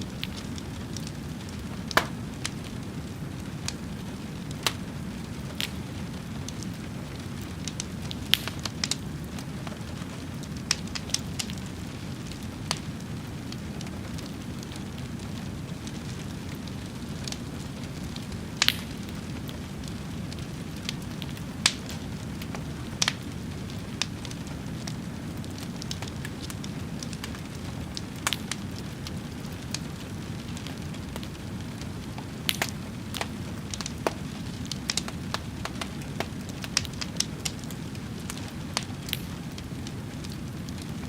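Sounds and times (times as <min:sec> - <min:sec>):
fire crackles and pops: 0:00.0 - 0:41.0
rush of fire flames: 0:00.0 - 0:41.0.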